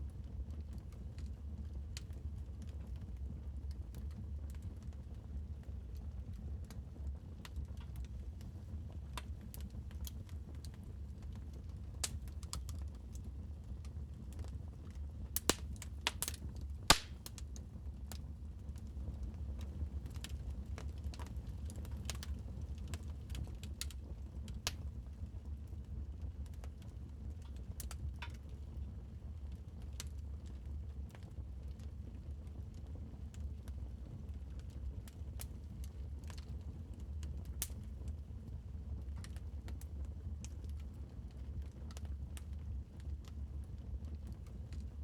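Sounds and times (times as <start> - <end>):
wood fire crackling: 0.2 - 45.0.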